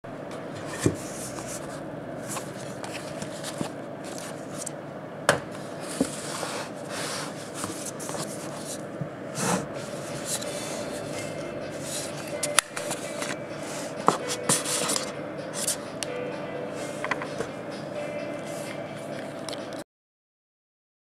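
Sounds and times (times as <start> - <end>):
steady faint hum: 0.1 - 19.8.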